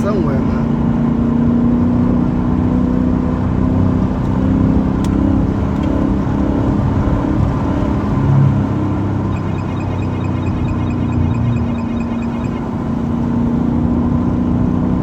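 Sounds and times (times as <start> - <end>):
car exhaust drone: 0.0 - 15.0.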